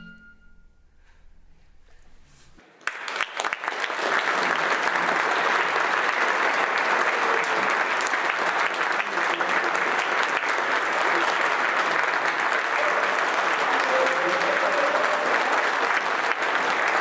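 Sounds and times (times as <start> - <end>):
audience applause: 2.6 - 17.0.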